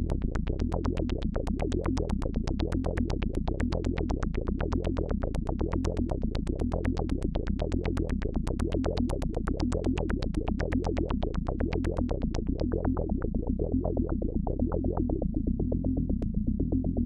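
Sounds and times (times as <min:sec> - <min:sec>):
sustained low synth tone: 0:00.0 - 0:17.0.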